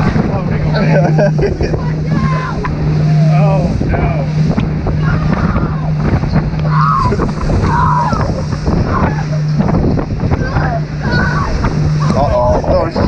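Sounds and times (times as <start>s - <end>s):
boat motor humming: 0.0s - 13.0s
hull knocking on waves: 0.0s - 13.0s
water rushing: 0.0s - 13.0s
wind on microphone: 0.0s - 13.0s.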